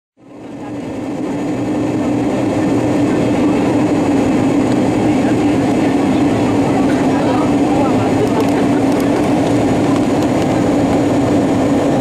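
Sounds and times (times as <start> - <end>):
airplane cabin jet engine drone: 0.2 - 12.0.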